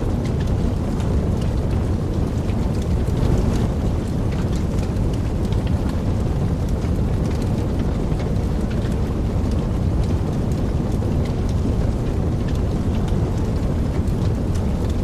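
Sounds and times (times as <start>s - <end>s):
wood fire crackling and roaring: 0.0s - 15.0s.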